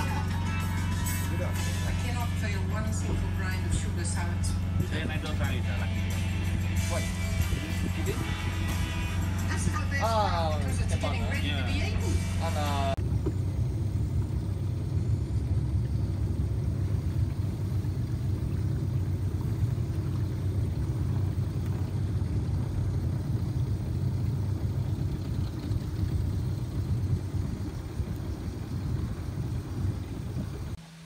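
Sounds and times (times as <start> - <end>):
boat motor rumble: 0.0 - 31.0.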